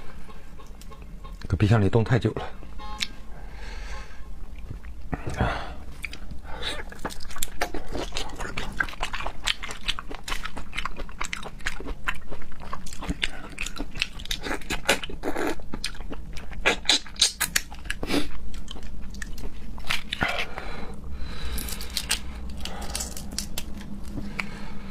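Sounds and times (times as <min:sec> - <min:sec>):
chewing and biting seafood: 0:04.5 - 0:24.6.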